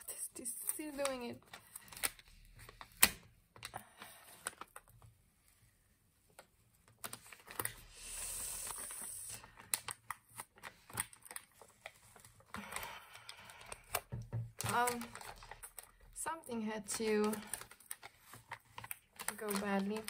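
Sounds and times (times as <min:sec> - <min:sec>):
paper crinkling clicks: 0:00.1 - 0:05.1, 0:06.3 - 0:07.9, 0:08.6 - 0:20.0.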